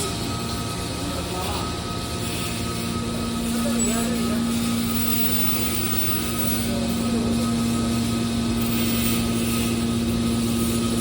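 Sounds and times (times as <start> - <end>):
baler machine humming: 0.0 - 11.0.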